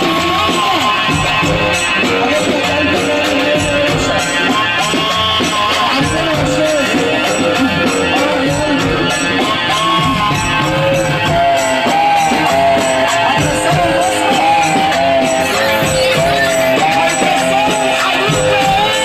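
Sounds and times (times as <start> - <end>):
hand drums and tambourine: 0.0 - 19.0
ornamented melody line: 0.0 - 19.0.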